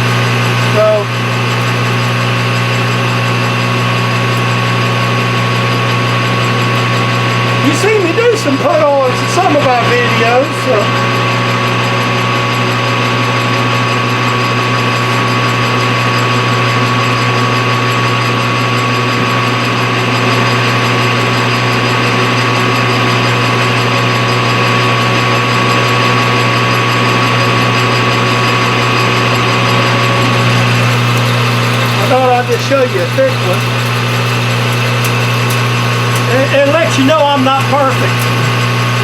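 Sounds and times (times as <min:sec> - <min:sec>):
high whine from gearing: 0:00.0 - 0:39.0
machine tool low hum: 0:00.0 - 0:39.0.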